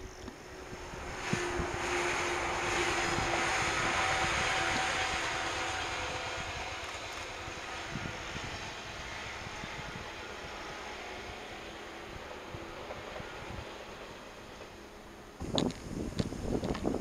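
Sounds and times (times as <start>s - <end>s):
electric train passing: 0.0s - 17.0s
steady humming tone: 0.0s - 17.0s.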